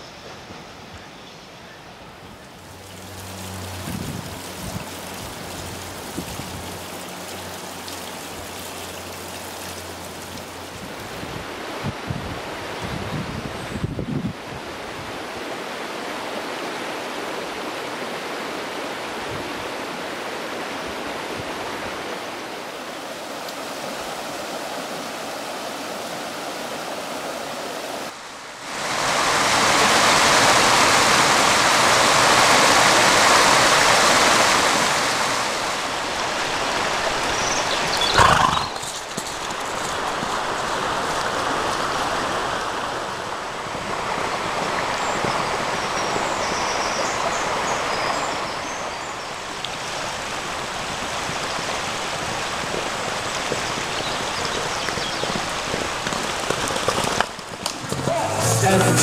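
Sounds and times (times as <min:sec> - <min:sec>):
stream rushing over stones: 0:02.6 - 0:13.4, 0:14.3 - 0:59.0.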